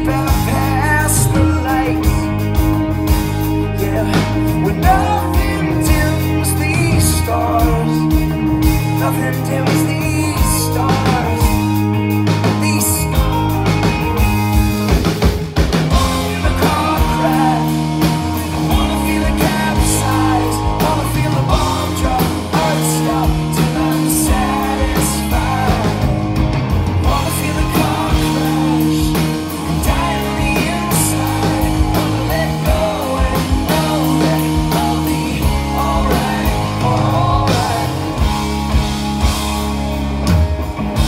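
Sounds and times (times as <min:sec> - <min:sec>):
bass guitar: 0:00.0 - 0:41.0
drum kit: 0:00.0 - 0:41.0
electric guitar: 0:00.0 - 0:41.0.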